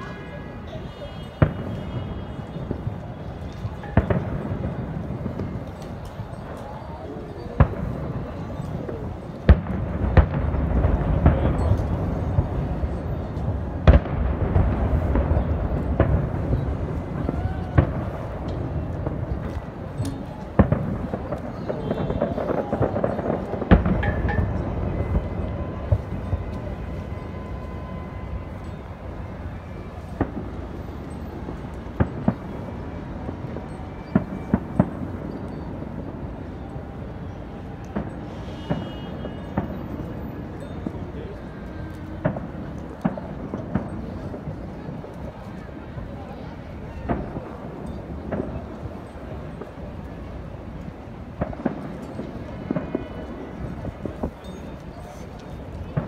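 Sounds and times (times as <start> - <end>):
distant firework bangs: 0.0 - 56.0.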